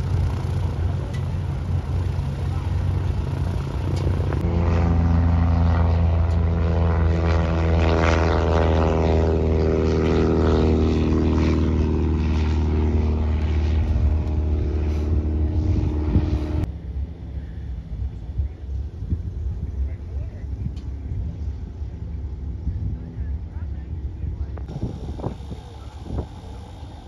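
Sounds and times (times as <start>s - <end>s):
propeller plane engine drone: 0.0s - 27.0s.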